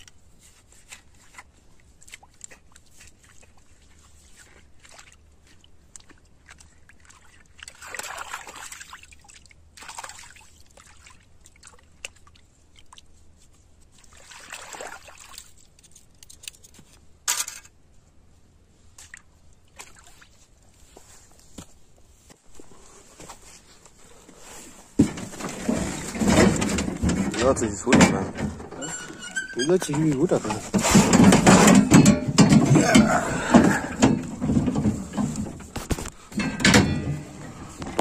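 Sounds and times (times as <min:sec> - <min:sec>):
water sloshing and splashing: 0:00.0 - 0:16.8, 0:18.8 - 0:22.7, 0:23.5 - 0:38.0.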